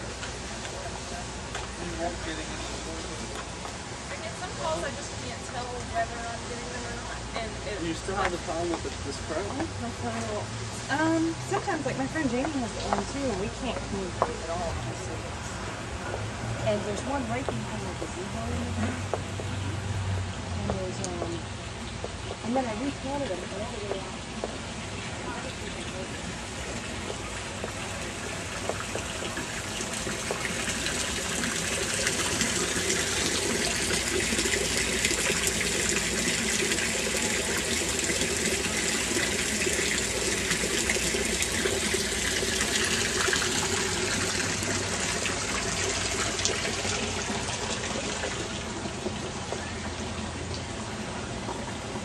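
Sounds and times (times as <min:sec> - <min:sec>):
fountain water splashing: 0:00.0 - 0:52.0.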